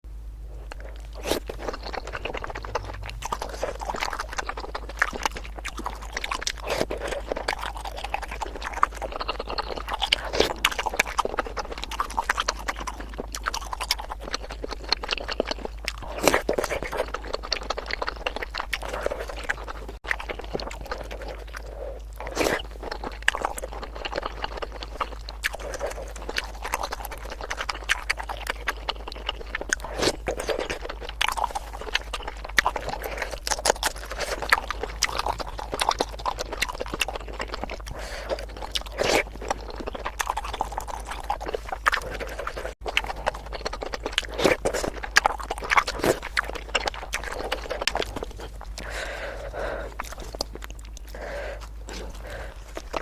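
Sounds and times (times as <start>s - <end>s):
wet chewing and biting: 0.5s - 53.0s
mouth clicks and smacks: 0.6s - 53.0s.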